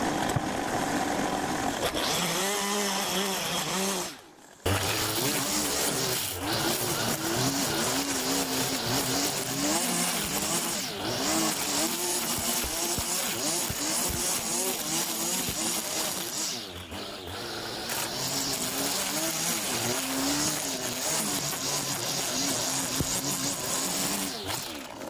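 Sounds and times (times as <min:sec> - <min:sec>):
string trimmer engine cutting grass: 0:00.0 - 0:25.0.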